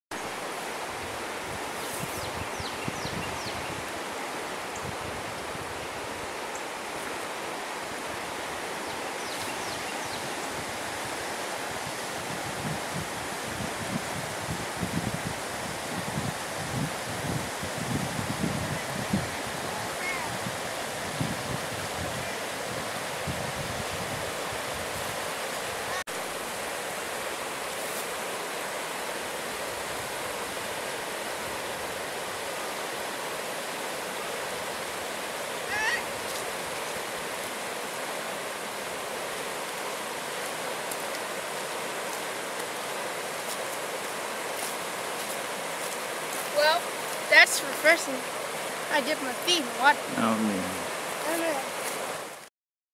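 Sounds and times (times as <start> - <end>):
river rushing: 0.1 - 52.5.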